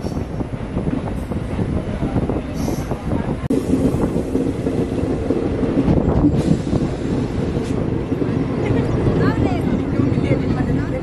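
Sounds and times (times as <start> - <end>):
train wheels rumbling on rails: 0.0 - 11.0
wind buffeting microphone: 0.0 - 11.0.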